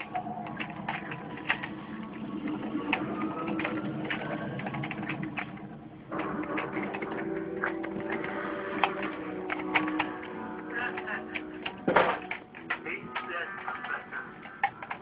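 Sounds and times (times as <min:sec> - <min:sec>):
steady background hum: 0:00.0 - 0:15.0
toy cars clicking together: 0:00.0 - 0:15.0.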